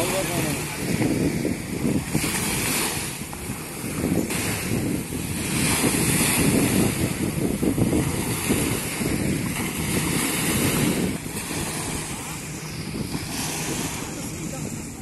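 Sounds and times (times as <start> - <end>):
sea waves washing on sand: 0.0 - 15.0
wind buffeting microphone: 0.0 - 15.0.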